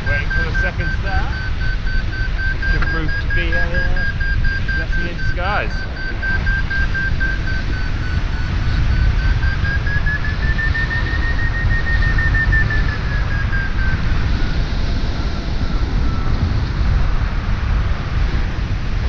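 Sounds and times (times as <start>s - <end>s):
variometer beeping: 0.0s - 18.4s
wind buffeting microphone: 0.0s - 19.0s.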